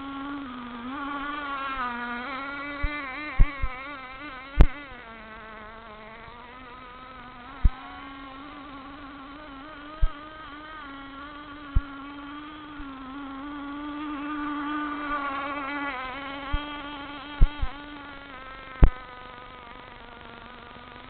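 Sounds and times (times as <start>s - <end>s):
model boat engine buzzing: 0.0s - 21.0s.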